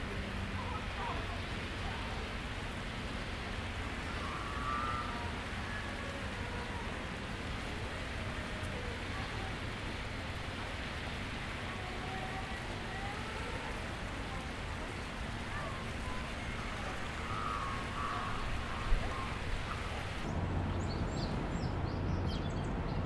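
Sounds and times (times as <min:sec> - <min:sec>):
faint indistinct voices: 0:00.0 - 0:20.3
outdoor background noise: 0:00.0 - 0:23.0.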